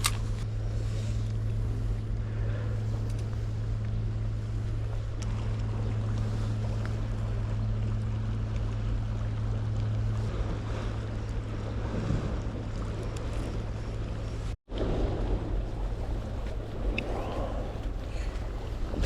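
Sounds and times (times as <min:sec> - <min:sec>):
low engine hum: 0:00.0 - 0:19.0
wind noise on microphone: 0:00.0 - 0:19.0.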